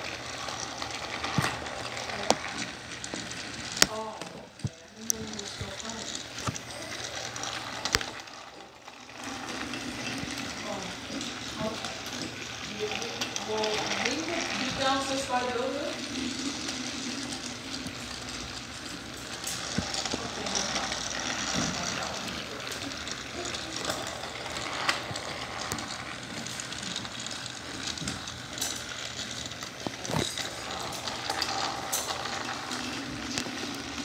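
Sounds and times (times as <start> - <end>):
toy train motor hum: 0.0 - 34.0.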